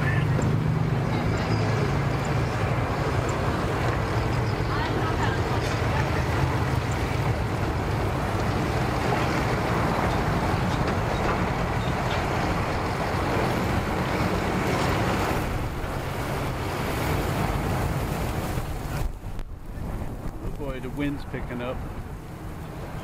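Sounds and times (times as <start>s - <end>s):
low outdoor rumble: 0.0s - 23.0s
wind noise on microphone: 0.0s - 23.0s.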